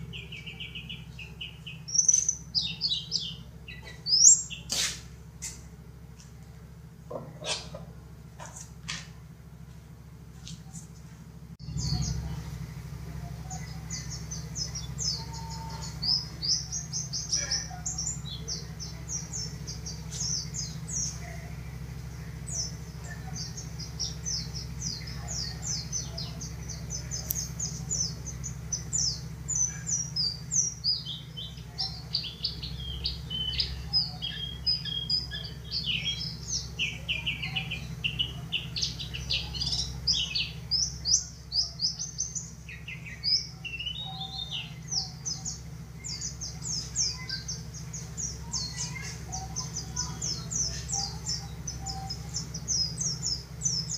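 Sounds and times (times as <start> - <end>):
bird twittering song: 0.0 - 6.4, 11.6 - 53.9.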